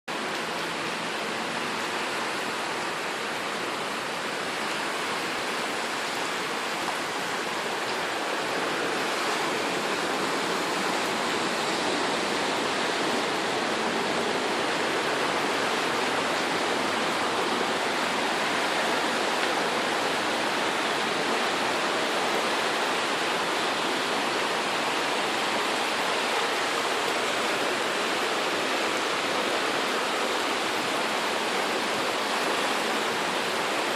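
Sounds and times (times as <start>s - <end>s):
rushing floodwater: 0.1s - 33.9s.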